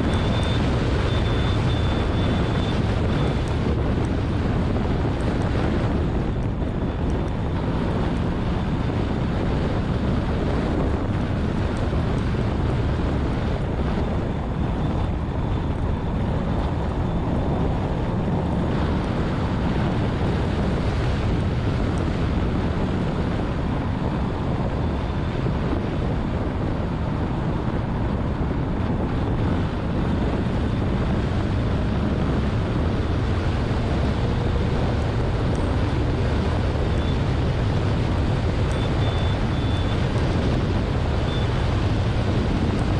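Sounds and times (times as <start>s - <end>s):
road roar: 0.0s - 42.9s
wind buffeting microphone: 0.0s - 42.9s.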